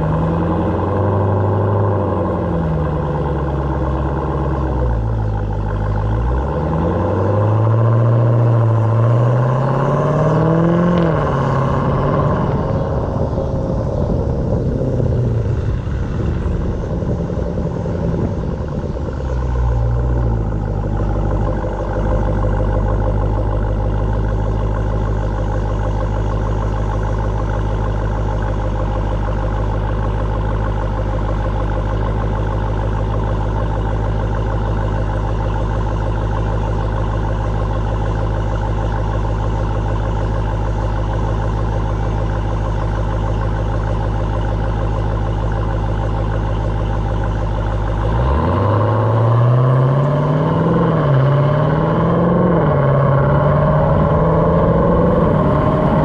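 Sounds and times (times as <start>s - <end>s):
car engine running and revving: 0.0s - 56.0s.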